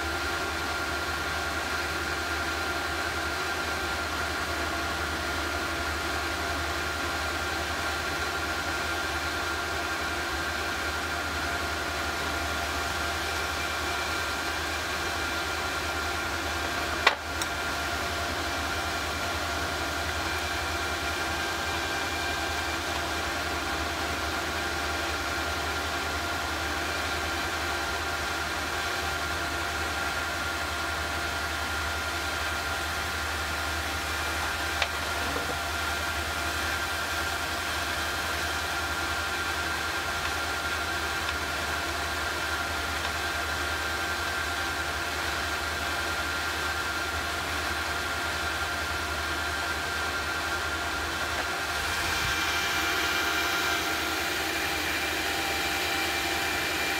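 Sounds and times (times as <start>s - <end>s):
induction heater humming and whining: 0.0s - 56.9s.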